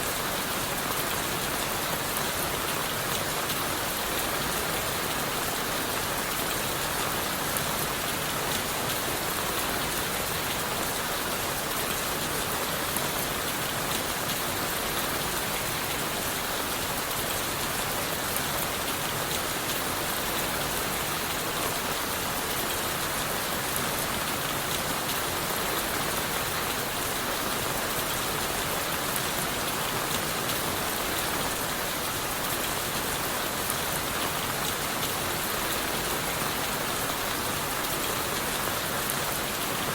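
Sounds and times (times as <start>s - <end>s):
rain on leaves and wood: 0.0s - 39.9s.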